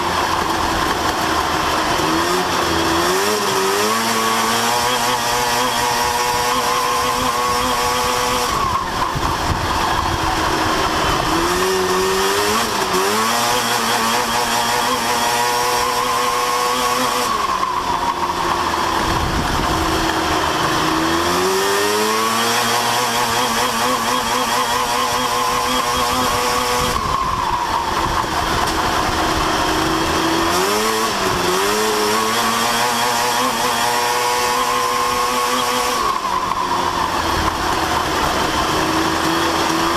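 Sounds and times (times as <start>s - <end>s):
race truck engine: 0.0s - 39.9s.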